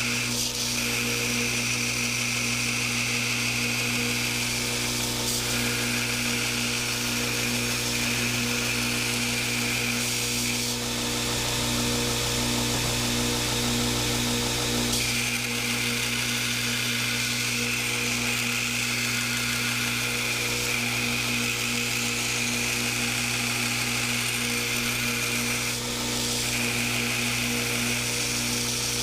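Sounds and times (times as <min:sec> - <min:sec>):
electric power tool running: 0:00.0 - 0:29.0.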